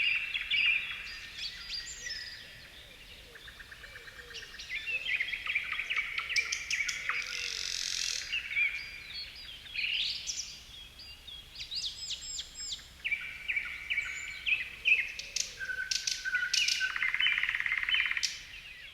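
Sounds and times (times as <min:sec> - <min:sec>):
songbirds singing and chirping: 0:00.0 - 0:18.9.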